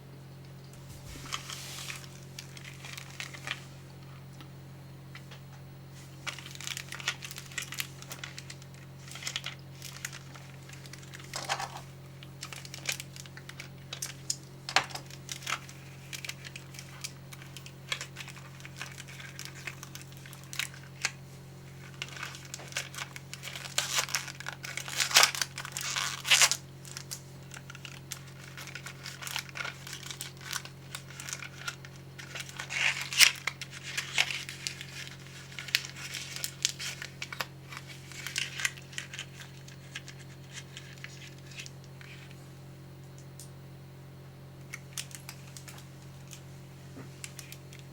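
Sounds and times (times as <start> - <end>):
snack packaging crinkling and tearing: 0.7 - 3.6, 6.2 - 42.4, 44.7 - 46.5, 47.2 - 47.9.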